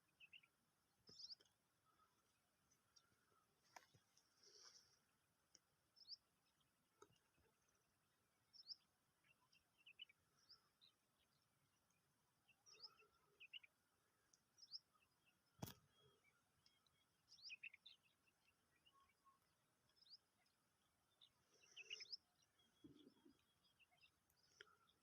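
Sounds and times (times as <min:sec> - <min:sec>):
faint bird chirps: 0:00.0 - 0:05.0, 0:08.5 - 0:25.0.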